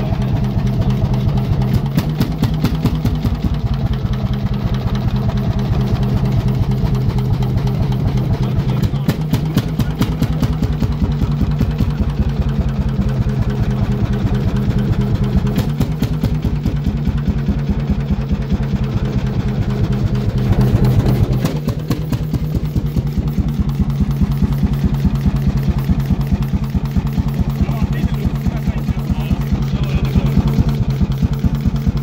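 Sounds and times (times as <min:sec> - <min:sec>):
single-cylinder engine running: 0:00.0 - 0:32.0.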